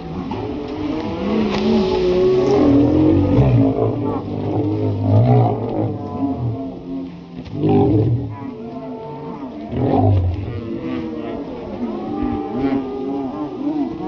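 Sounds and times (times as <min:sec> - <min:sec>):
bull bellowing: 0:00.0 - 0:14.0.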